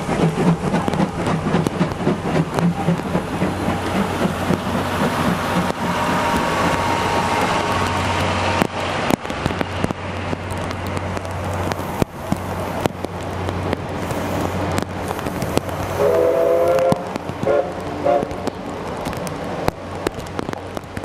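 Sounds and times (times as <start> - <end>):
heavy rain: 0.0 - 21.0
train coaches rolling on rails: 0.0 - 21.0
wheels clicking: 0.0 - 21.0.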